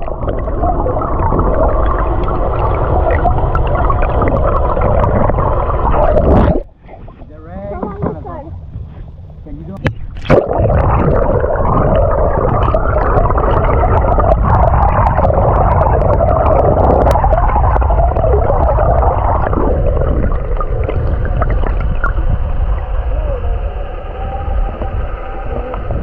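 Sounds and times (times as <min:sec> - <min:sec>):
motorboat engine rumble: 0:00.0 - 0:26.0
water churning around hull: 0:00.0 - 0:26.0.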